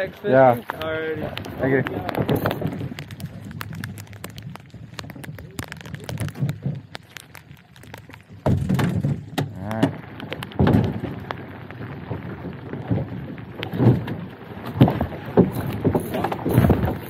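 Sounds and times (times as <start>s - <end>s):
rain pattering: 0.0s - 17.0s
hollow knocks in a boat: 0.3s - 7.3s, 8.3s - 17.0s.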